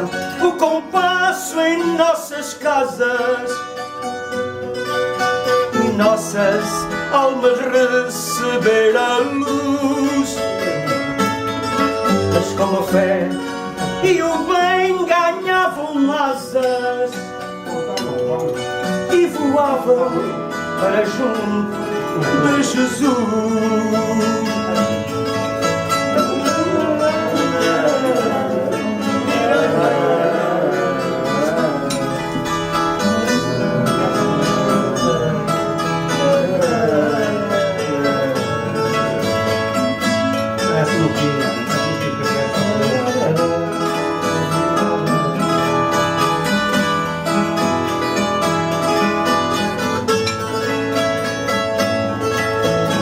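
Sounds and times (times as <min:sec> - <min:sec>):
plucked guitar melody: 0:00.0 - 0:53.0
strummed classical guitar: 0:00.0 - 0:53.0.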